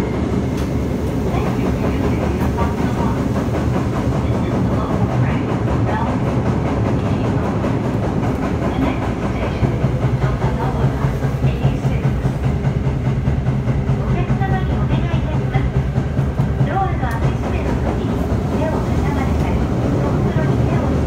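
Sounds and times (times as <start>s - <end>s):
subway train wheels rumbling: 0.0s - 21.0s
wheels clickety-clack: 0.0s - 21.0s.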